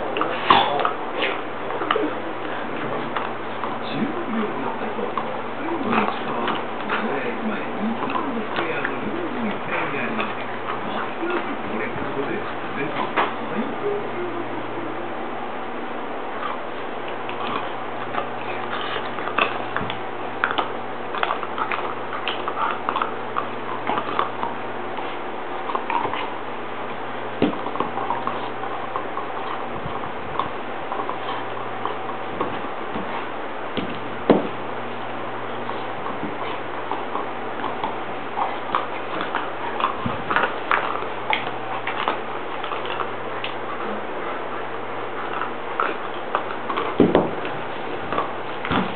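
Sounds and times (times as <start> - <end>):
dog chewing toy: 0.0 - 48.9.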